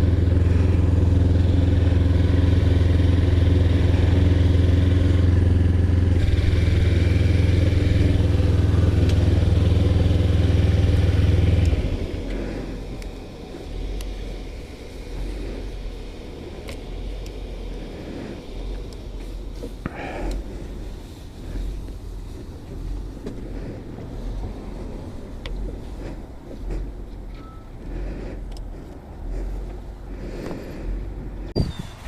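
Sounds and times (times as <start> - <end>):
outdoor background noise: 0.0 - 32.0
vehicle engine idling: 0.0 - 32.0.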